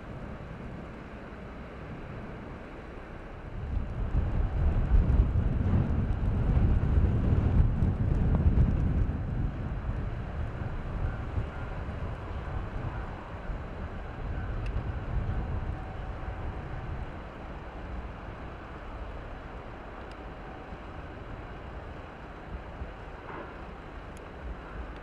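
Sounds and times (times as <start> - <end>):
faint diesel railcar hum: 0.0 - 25.0
wind buffeting microphone: 0.0 - 25.0.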